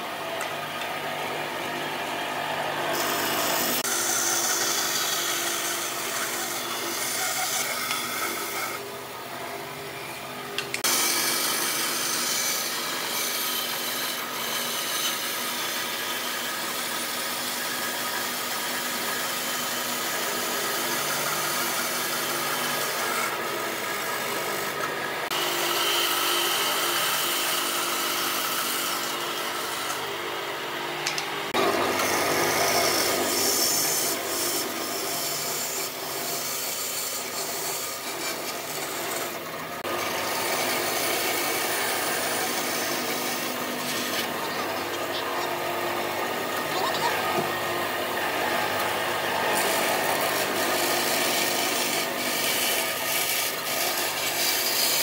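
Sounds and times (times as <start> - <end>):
band saw cutting wood: 0.0 - 55.0.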